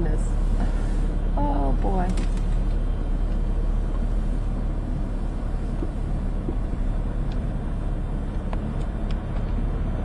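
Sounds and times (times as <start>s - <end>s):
car rumble from inside cabin: 0.0s - 10.0s.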